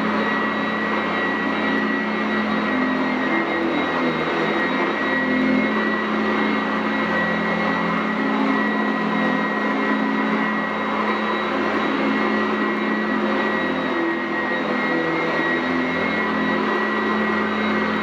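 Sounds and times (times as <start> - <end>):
upright vacuum running on carpet: 0.0 - 18.0.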